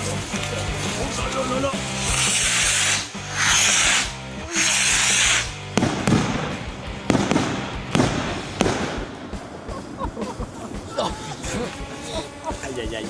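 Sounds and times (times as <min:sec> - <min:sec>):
firework rockets hissing launch: 0:00.0 - 0:10.7
fireworks banging and crackling: 0:00.0 - 0:13.0.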